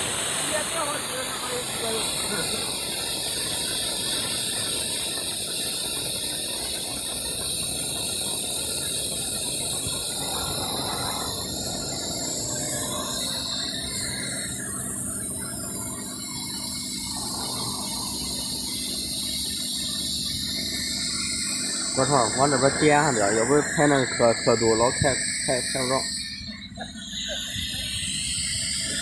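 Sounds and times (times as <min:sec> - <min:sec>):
oil extractor hissing and crackling: 0:00.0 - 0:29.0.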